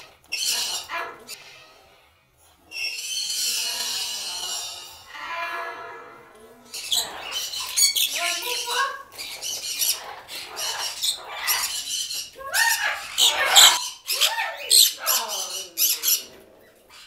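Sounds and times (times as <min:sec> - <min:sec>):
parrots squawking and chattering: 0:00.0 - 0:17.0.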